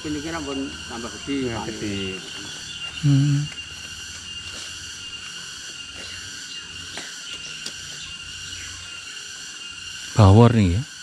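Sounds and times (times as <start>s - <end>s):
insects chorus droning: 0.0s - 11.0s.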